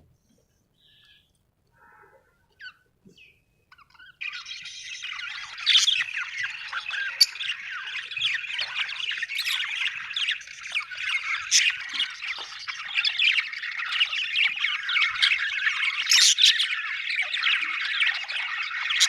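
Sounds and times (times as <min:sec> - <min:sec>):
budgerigars chattering: 0:03.7 - 0:19.0.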